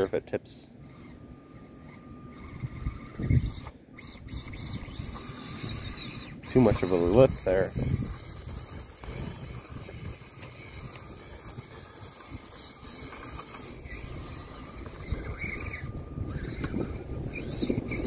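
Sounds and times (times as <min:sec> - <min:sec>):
rc car motor whirring: 0:00.0 - 0:18.0.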